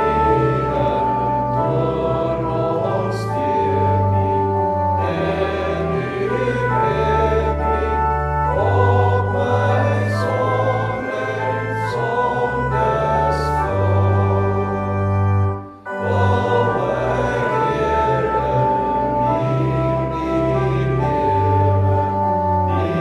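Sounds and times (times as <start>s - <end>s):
congregation singing a psalm: 0.0s - 23.0s
organ accompaniment: 0.0s - 23.0s.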